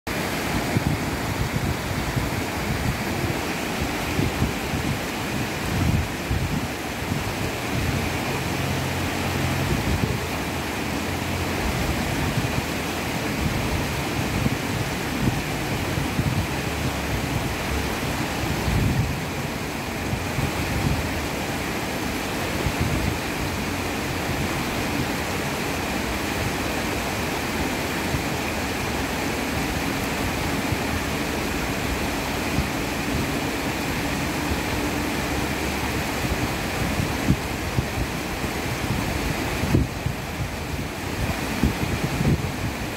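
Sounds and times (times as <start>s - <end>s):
stream rushing over rocks: 0.1s - 42.9s
wind buffeting microphone: 0.2s - 42.9s.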